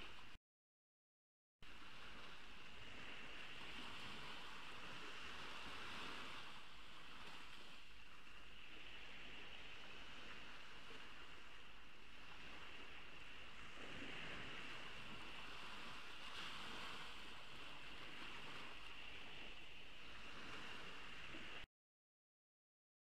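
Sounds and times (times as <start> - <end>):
ocean waves washing onto beach: 1.6 - 21.7.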